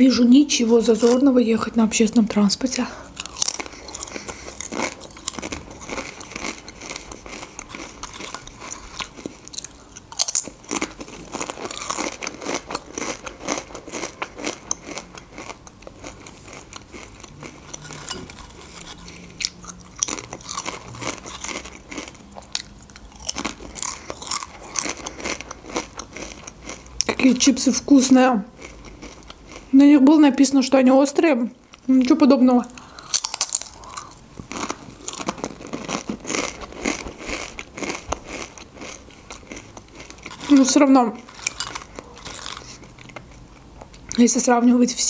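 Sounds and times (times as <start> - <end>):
chewing crunchy chips: 2.8 - 29.8, 32.7 - 44.3.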